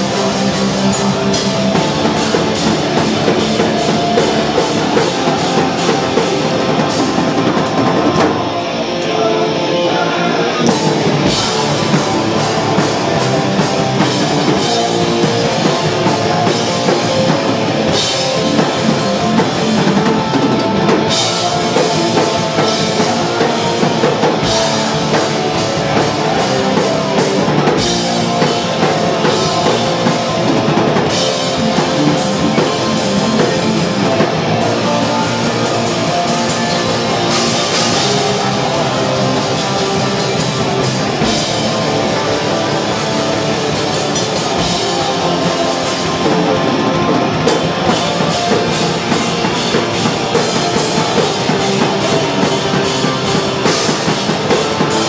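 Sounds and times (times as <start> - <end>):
punk band playing live: 0.0 - 55.0.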